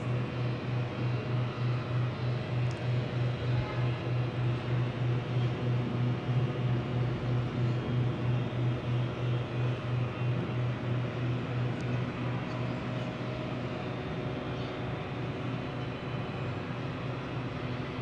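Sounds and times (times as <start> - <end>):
pulsing electric pump hum: 0.0 - 18.0.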